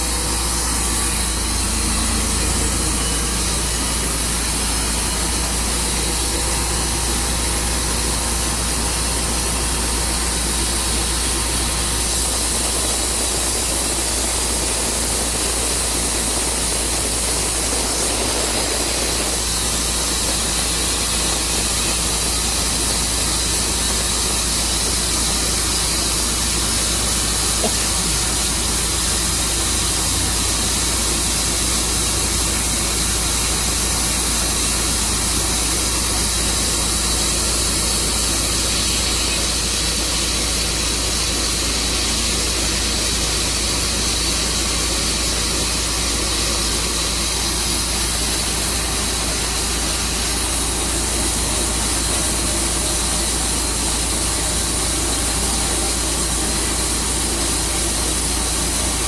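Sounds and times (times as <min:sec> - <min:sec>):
sawmill running: 0:00.0 - 0:59.0.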